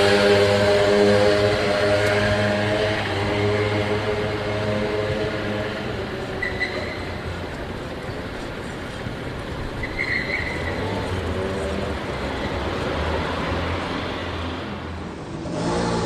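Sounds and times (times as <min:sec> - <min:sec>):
vehicle noise rumble and hiss: 0:00.0 - 0:16.0.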